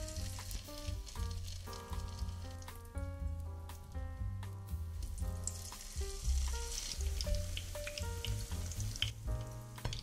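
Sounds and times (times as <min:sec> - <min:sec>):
batter sizzling in hot oil: 0:00.0 - 0:10.0
soft background music: 0:00.0 - 0:10.0.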